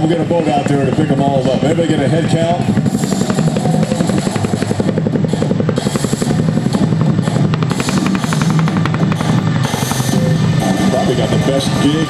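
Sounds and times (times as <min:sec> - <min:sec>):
helicopter rotors chopping: 0:00.0 - 0:12.0.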